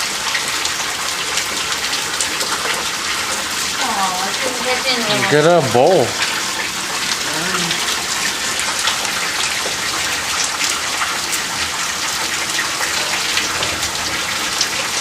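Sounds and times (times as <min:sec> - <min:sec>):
hailstones ticking: 0:00.0 - 0:15.0
heavy rain hissing: 0:00.0 - 0:15.0.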